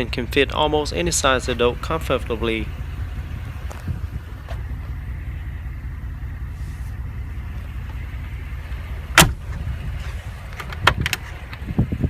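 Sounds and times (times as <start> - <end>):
low rumble in car cabin: 0.0 - 12.0.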